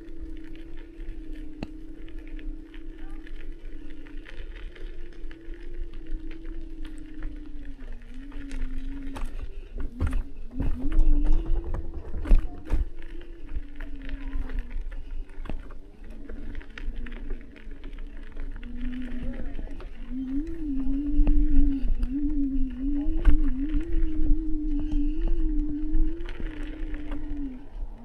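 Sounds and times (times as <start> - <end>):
electric scooter motor whining: 0.0 - 28.0
low rumble: 0.0 - 28.0.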